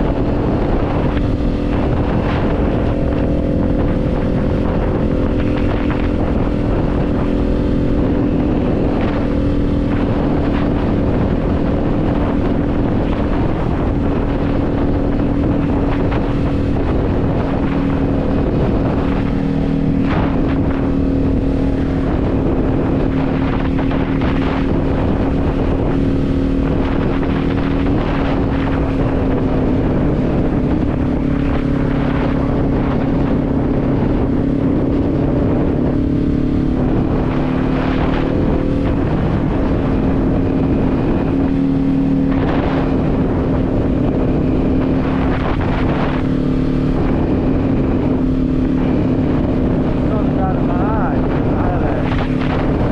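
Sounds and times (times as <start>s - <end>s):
motorcycle engine running: 0.0s - 52.9s
wind buffeting microphone: 0.0s - 52.9s.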